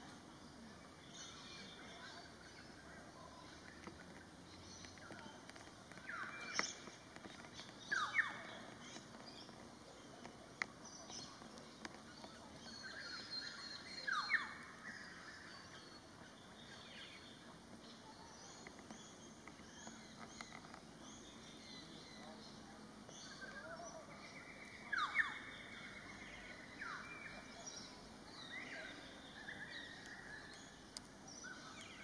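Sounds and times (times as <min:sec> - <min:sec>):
soft high bird chirps: 0:00.3 - 0:32.0.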